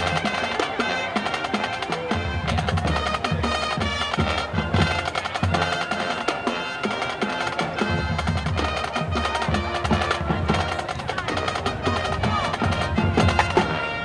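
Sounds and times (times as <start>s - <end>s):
bass and snare drums: 0.0s - 14.0s
brass holding chords: 0.0s - 14.0s.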